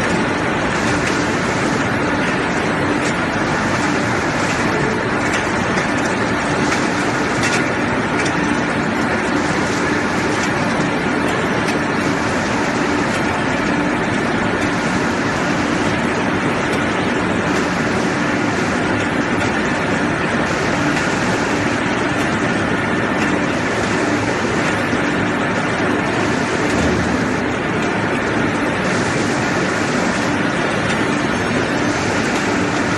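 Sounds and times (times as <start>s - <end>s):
pellet mills running: 0.0s - 32.9s.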